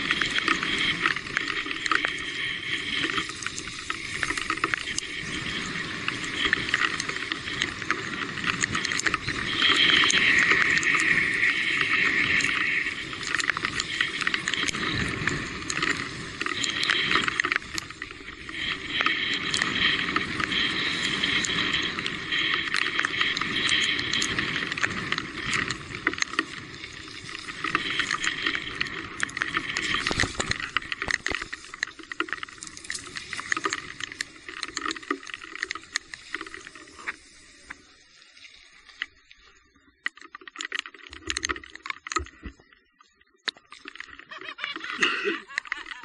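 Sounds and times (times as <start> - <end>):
rattles and clicks: 0.0 - 37.2
bike tyres on muddy trail: 0.0 - 46.0.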